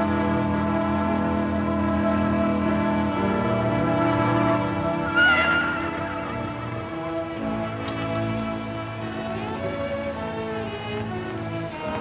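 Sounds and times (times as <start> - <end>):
slow sustained film music chords: 0.0 - 12.0.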